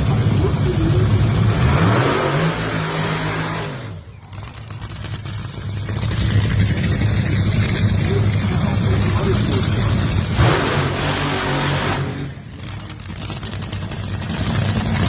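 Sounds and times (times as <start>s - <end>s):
dragster engine revving: 0.0s - 15.0s.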